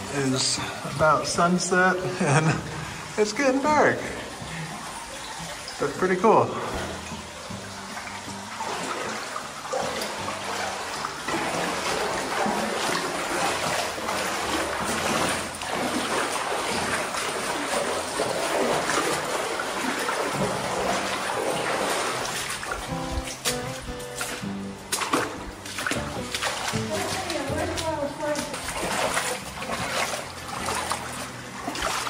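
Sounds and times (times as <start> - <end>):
background music: 0.0 - 32.0
river water splashing: 0.0 - 32.0.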